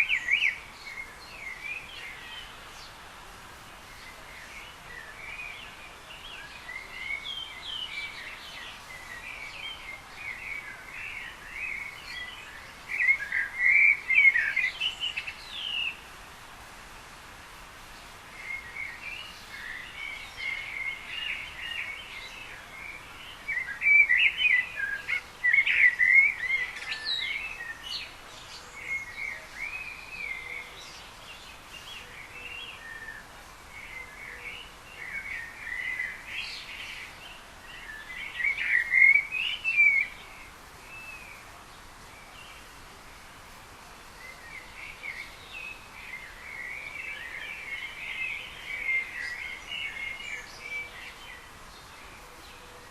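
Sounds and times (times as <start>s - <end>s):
background hiss: 0.0s - 52.9s
songbirds chirping: 0.0s - 52.9s.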